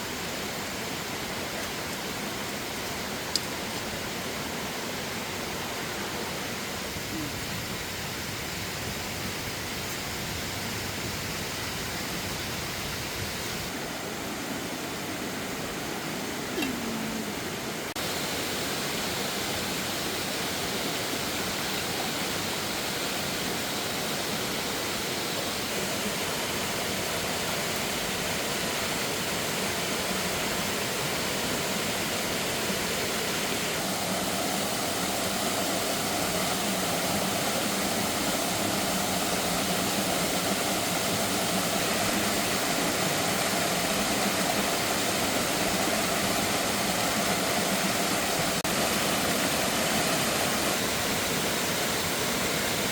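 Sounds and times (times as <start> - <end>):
fast-flowing water rushing: 0.0 - 52.9.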